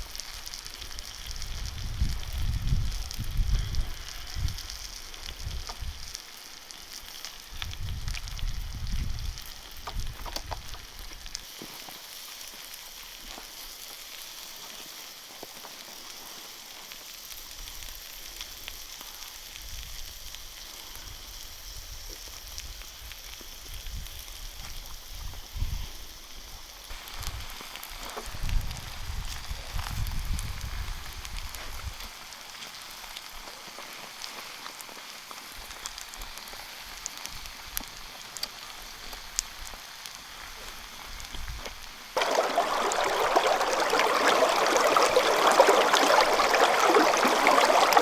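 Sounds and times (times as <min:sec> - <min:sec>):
meat sizzling in a pan: 0:00.0 - 0:42.2
small crackles of fire: 0:00.0 - 0:48.0.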